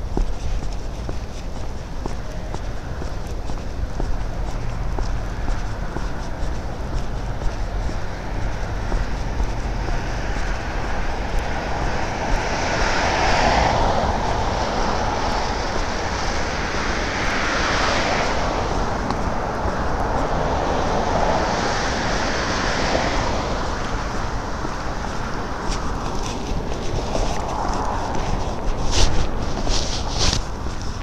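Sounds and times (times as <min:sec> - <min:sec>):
cars passing by: 0:00.0 - 0:31.0.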